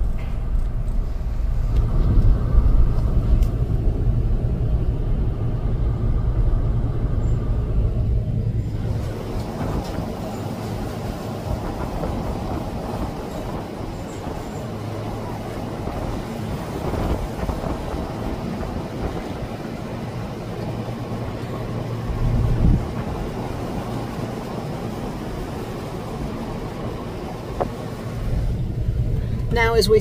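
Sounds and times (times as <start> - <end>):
low engine hum: 0.0 - 30.0
road rumble and tyre noise: 0.0 - 30.0.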